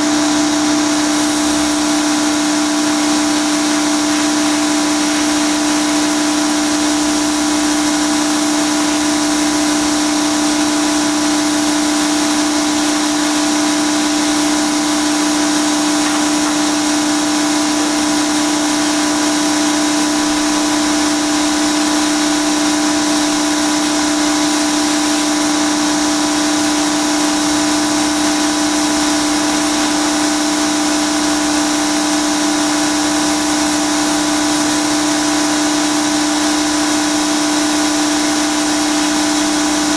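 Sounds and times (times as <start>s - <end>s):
pressure washer machine hum: 0.0s - 39.9s.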